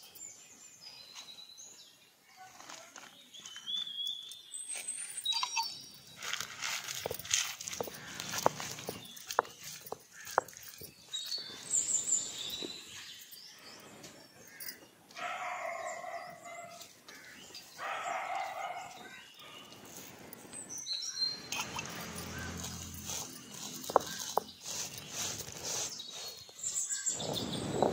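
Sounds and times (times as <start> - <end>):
birds chirping: 0.0 - 27.9.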